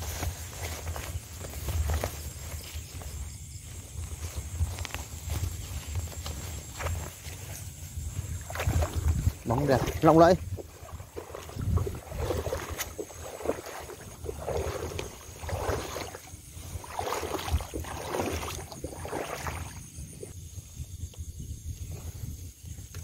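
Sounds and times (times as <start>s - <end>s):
footsteps splashing through water: 0.0s - 20.3s
microphone handling rumble: 3.0s - 23.0s.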